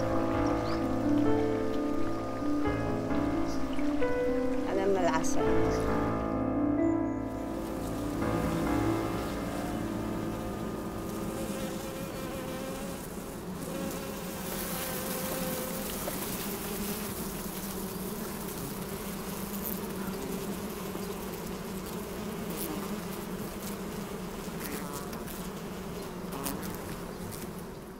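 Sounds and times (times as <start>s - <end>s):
honeybees buzzing: 0.0s - 27.9s.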